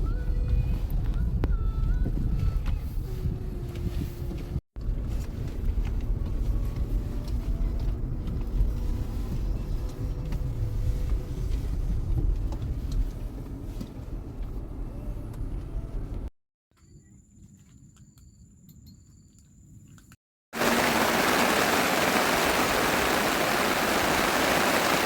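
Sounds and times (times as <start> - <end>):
car engine and road rumble: 0.0 - 16.3, 20.6 - 25.0.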